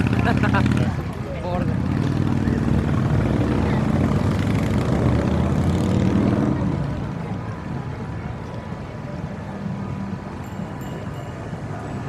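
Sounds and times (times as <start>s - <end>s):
engine rumble passing: 0.0s - 12.0s.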